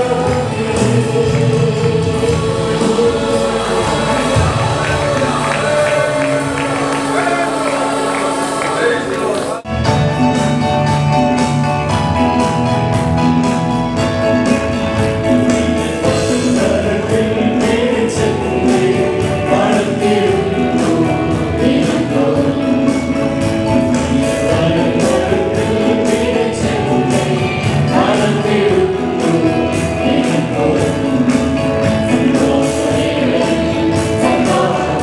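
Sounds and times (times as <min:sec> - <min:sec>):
choir singing over a beat: 0:00.0 - 0:09.7, 0:14.4 - 0:35.0.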